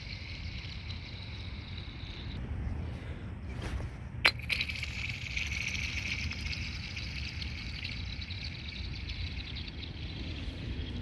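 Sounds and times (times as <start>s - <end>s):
ice ringing with high whine: 0.0s - 2.4s, 4.3s - 11.0s.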